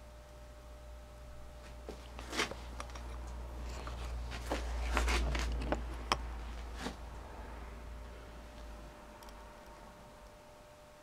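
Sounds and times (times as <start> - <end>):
low handling rumble: 1.3 - 10.2.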